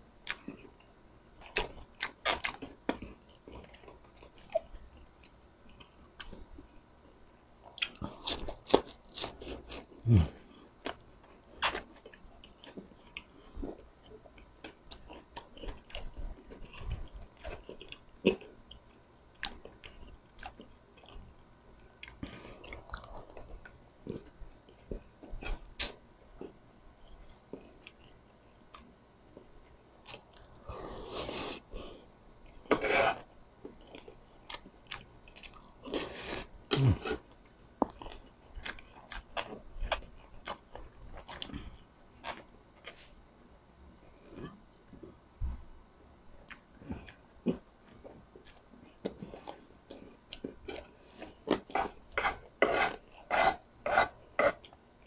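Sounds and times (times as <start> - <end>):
chewing crispy food: 0.2 - 30.7, 33.6 - 43.1, 46.4 - 55.0.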